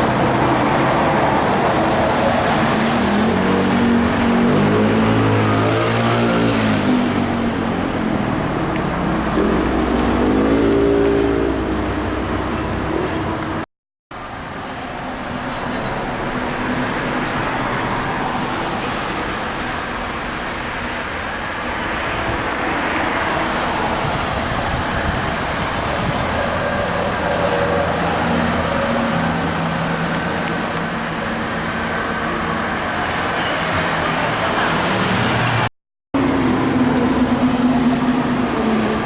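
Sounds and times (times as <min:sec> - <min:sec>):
truck engines: 0:00.0 - 0:39.0.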